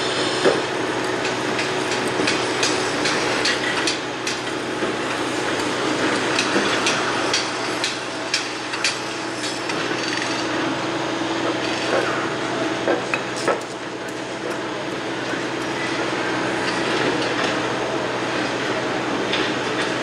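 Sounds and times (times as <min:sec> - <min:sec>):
steady machine drone: 0:00.0 - 0:20.0.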